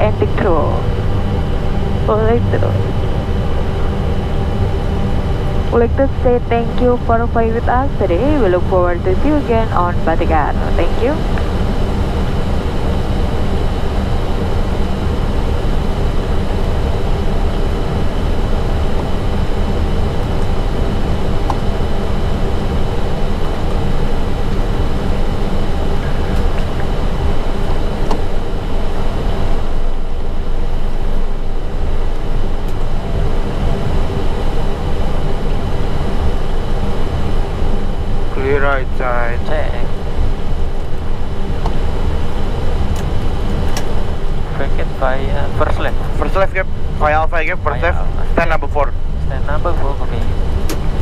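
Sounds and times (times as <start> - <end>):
aircraft cockpit low rumble: 0.0 - 51.0.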